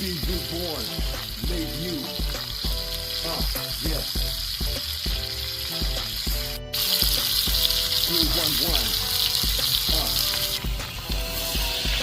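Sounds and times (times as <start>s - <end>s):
food sizzling on grill: 0.0s - 12.0s
music with bass beat: 0.0s - 12.0s.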